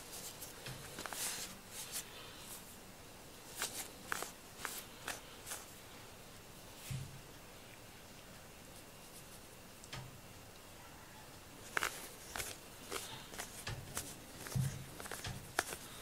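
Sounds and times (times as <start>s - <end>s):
soft rustling: 0.0s - 2.8s, 3.4s - 9.6s, 11.6s - 16.0s.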